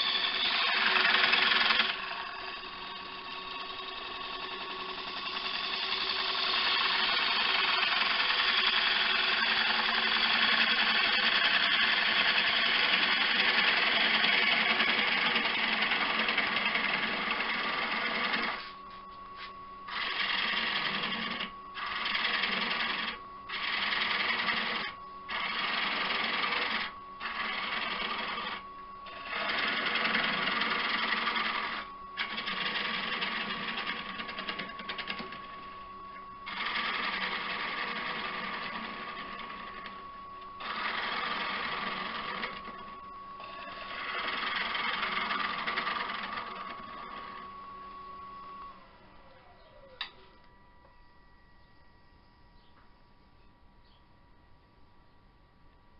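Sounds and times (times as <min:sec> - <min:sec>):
tool cutting wood on lathe: 0:00.0 - 0:18.8, 0:19.9 - 0:35.6, 0:36.4 - 0:40.0, 0:40.6 - 0:47.6
lathe humming: 0:00.0 - 0:51.0.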